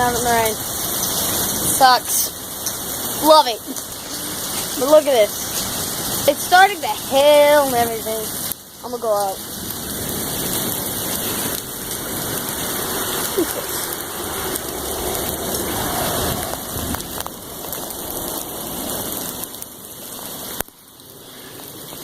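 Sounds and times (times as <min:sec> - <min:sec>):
heavy rain splashing: 0:00.0 - 0:22.0.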